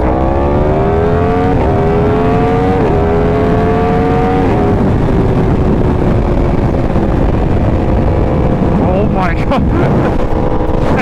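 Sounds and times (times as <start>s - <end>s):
motorcycle engine accelerating: 0.0s - 11.0s
wind rush on microphone: 0.0s - 11.0s.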